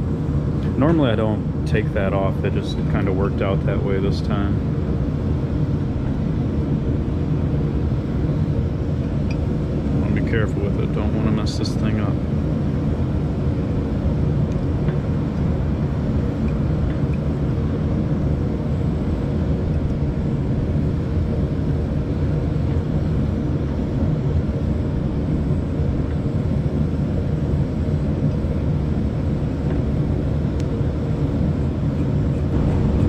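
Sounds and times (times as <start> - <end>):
low mechanical drone: 0.0 - 33.0.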